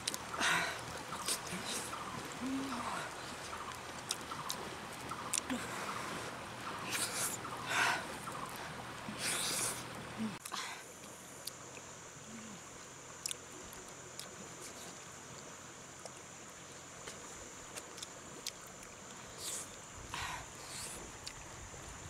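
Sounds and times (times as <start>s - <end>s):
steady high-pitched hum: 0.0s - 22.0s.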